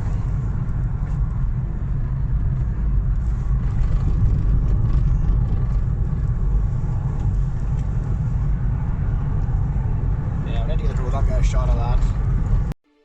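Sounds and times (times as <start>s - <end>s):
car road and engine rumble: 0.0s - 12.8s.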